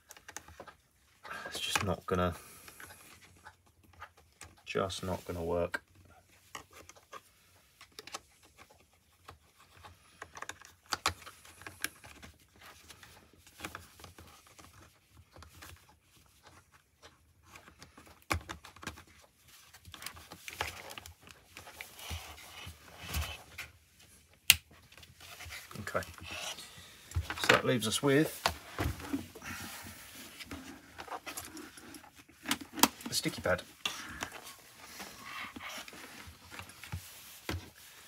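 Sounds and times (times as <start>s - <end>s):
plastic helmet parts clicking: 0.0s - 5.0s, 5.6s - 38.0s.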